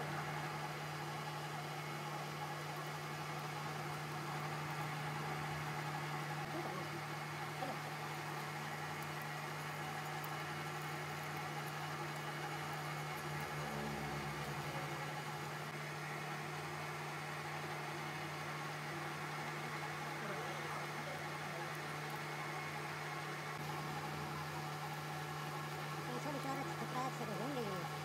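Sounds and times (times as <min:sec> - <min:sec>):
lathe motor humming: 0:00.0 - 0:28.0.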